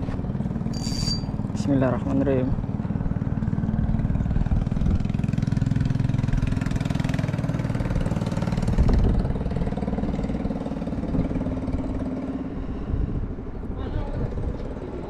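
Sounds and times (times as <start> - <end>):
motorcycle engine running: 0.0 - 12.5.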